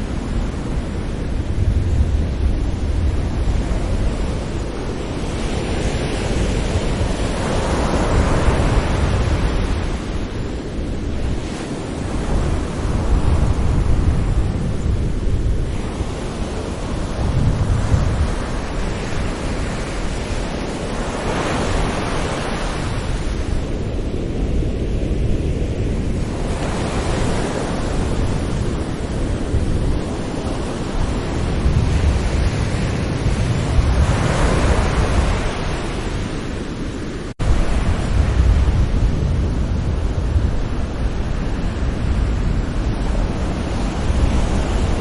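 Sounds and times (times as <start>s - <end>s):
sea waves breaking on shore: 0.0s - 45.0s.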